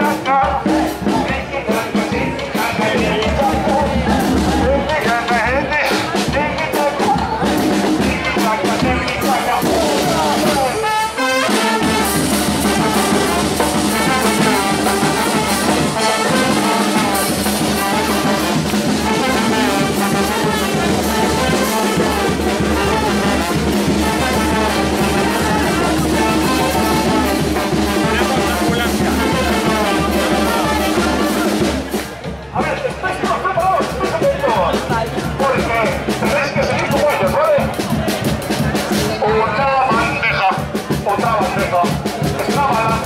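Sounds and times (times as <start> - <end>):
bass drum: 0.0 - 10.8, 11.5 - 39.2
snare drum: 0.0 - 43.0
trumpets and trombones: 0.0 - 43.0
tuba: 0.0 - 43.0.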